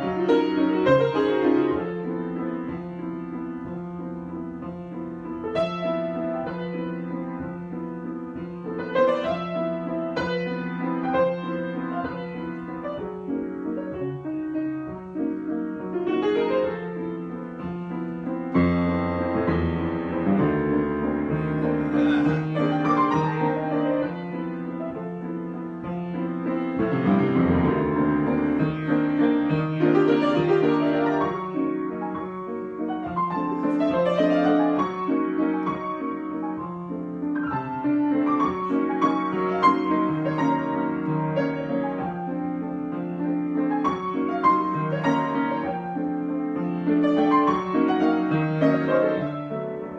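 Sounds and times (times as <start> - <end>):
deep piano bass notes: 0.0 - 49.9
solo piano: 0.0 - 49.9.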